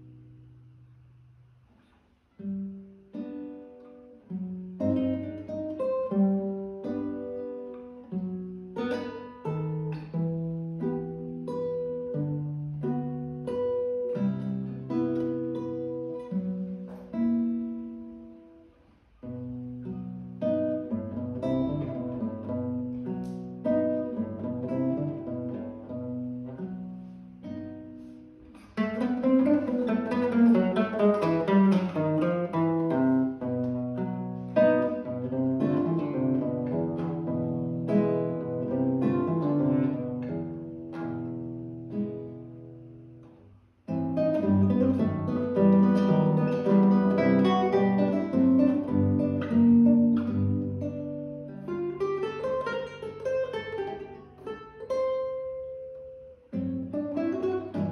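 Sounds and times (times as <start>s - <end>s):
classical guitar: 0.0s - 57.9s.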